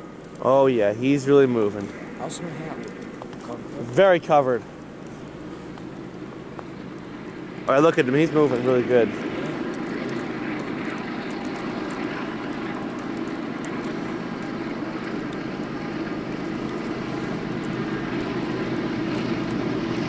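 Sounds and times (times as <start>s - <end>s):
diesel locomotives droning: 0.0s - 20.0s.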